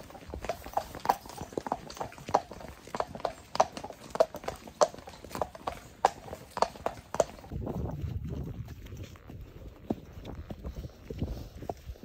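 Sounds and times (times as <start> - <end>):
horse hooves on wet tarmac: 0.0 - 12.0.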